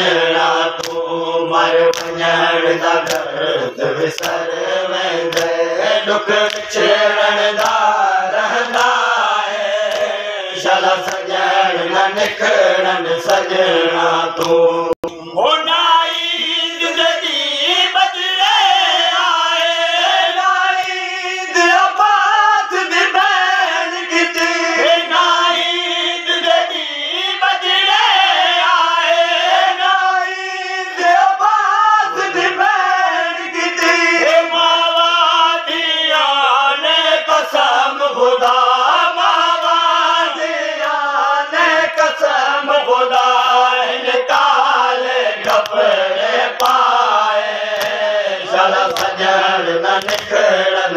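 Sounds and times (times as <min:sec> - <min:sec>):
men singing in chorus: 0:00.0 - 0:50.9.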